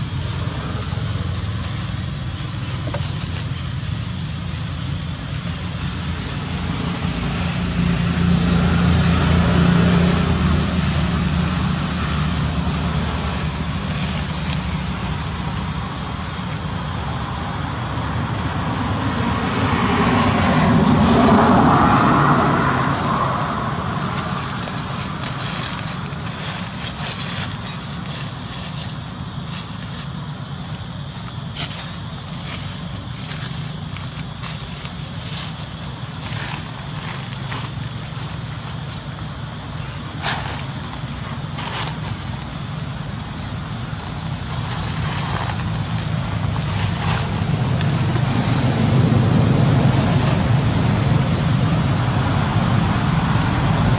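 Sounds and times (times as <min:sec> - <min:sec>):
steady high hiss: 0:00.0 - 0:53.9
vehicle passing: 0:00.0 - 0:53.9.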